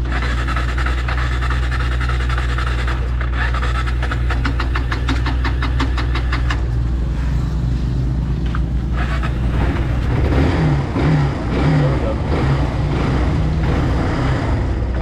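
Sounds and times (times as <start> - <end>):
small motorbike engine running: 0.0 - 6.7, 8.4 - 13.9.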